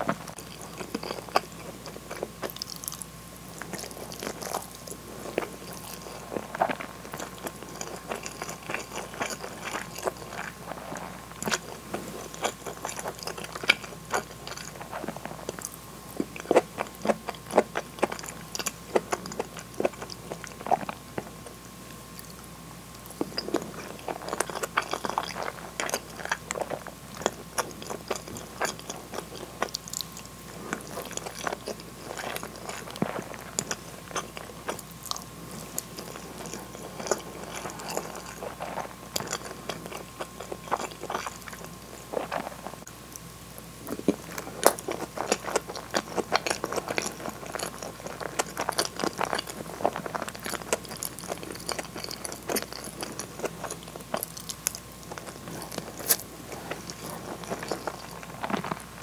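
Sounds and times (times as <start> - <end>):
wet chewing sounds: 0.0 - 59.0.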